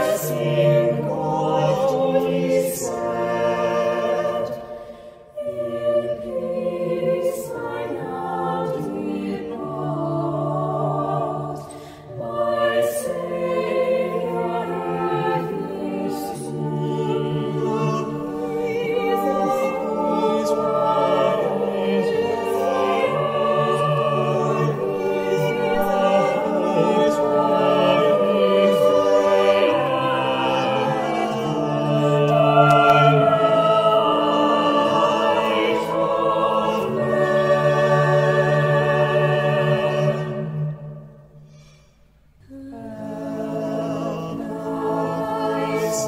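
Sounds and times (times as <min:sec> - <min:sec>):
mixed choir singing: 0:00.0 - 0:41.7, 0:42.4 - 0:46.0.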